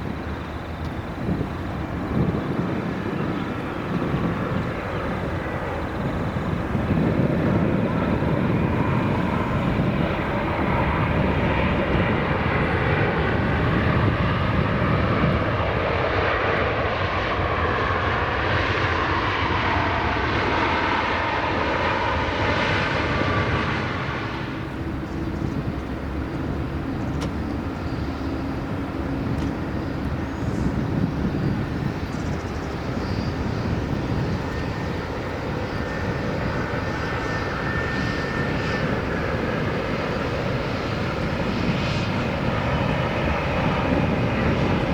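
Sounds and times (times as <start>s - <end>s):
distant steady jet noise: 0.0s - 44.9s
jet airliner engines whining: 0.0s - 44.9s.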